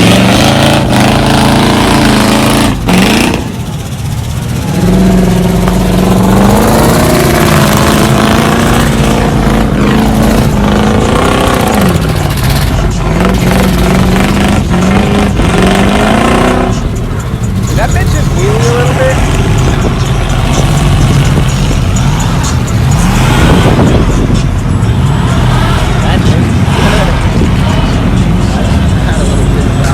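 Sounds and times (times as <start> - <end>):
vehicle engine revving: 0.0 - 29.9.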